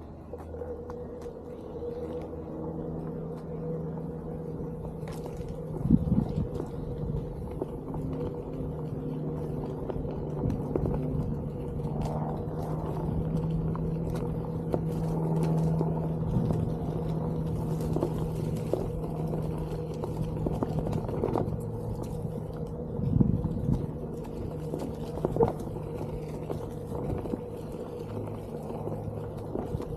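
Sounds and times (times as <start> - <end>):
electric motor humming: 0.0 - 29.9
tyre rumbling over trail: 0.0 - 29.9.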